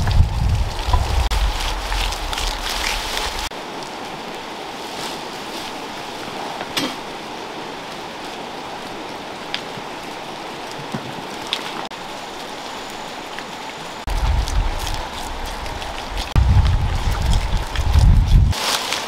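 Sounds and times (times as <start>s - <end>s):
river flowing over stones: 0.7s - 19.0s.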